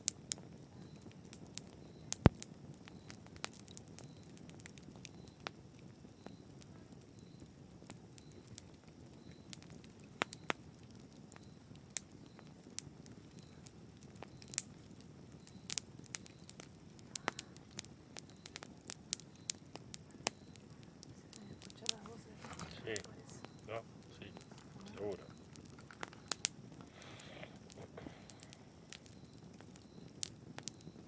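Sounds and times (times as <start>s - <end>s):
low rumble of flame: 0.0s - 31.0s
wood fire crackling and popping: 0.0s - 31.0s.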